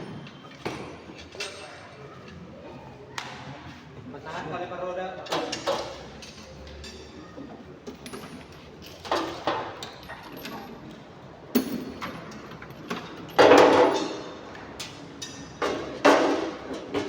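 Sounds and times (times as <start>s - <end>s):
metal tools clinking and clanking: 0.1s - 2.4s, 5.2s - 17.0s.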